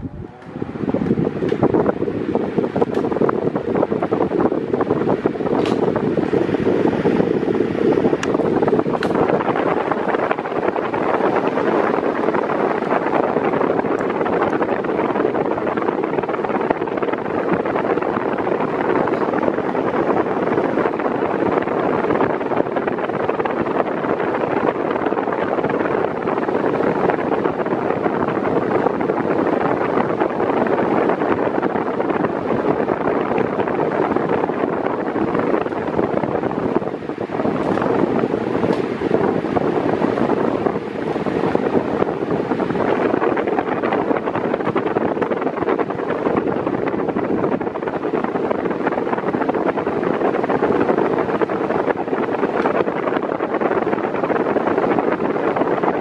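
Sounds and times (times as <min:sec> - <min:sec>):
air buffeting microphone: 0:00.0 - 0:56.0
electric fan running: 0:00.0 - 0:56.0.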